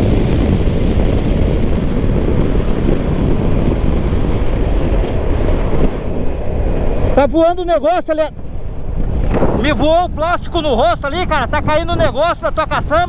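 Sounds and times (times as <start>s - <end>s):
motorcycle road noise: 0.0s - 13.0s
wind rush on microphone: 0.0s - 13.0s.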